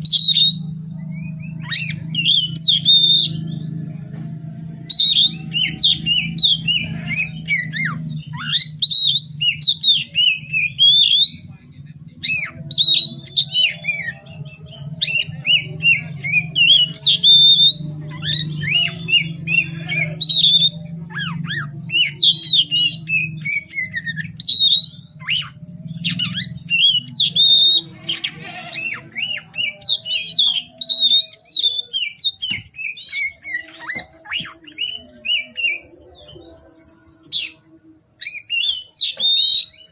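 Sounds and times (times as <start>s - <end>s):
bird singing chirps and whistles: 0.0s - 39.9s
steady low hum: 0.0s - 39.9s.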